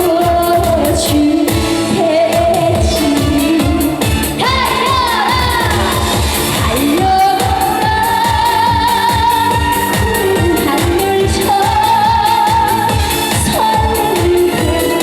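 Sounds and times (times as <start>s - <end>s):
pop backing music with beat: 0.0s - 15.0s.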